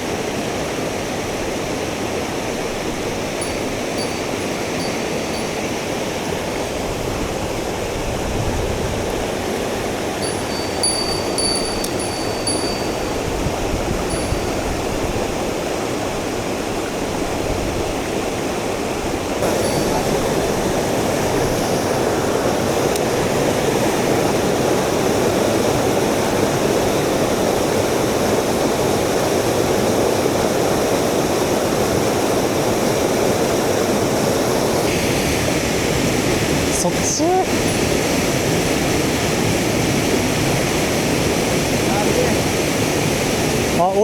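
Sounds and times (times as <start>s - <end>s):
stream rushing over rocks: 0.0s - 44.0s.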